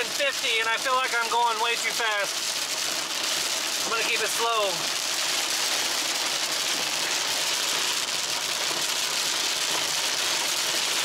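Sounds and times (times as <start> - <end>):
heavy rain on car: 0.0 - 11.0.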